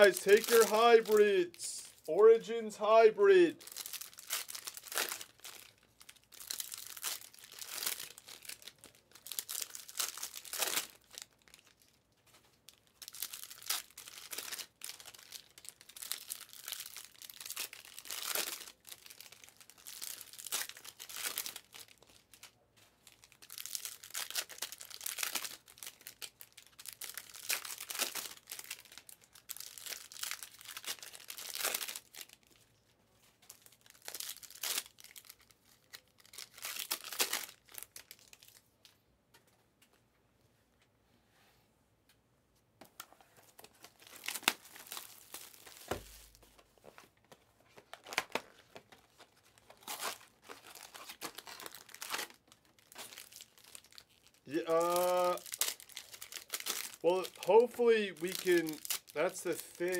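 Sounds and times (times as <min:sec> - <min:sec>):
plastic wrappers crinkling and tearing: 0:00.0 - 0:02.1, 0:03.2 - 0:39.0, 0:43.4 - 0:59.9.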